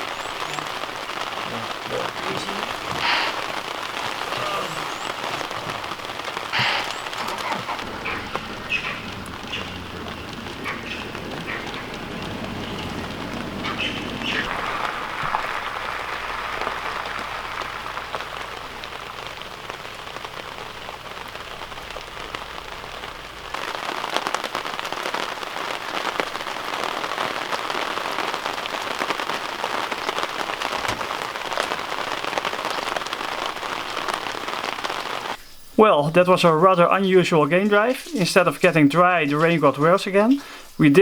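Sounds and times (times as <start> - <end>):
heavy rain pattering: 0.0 - 41.0.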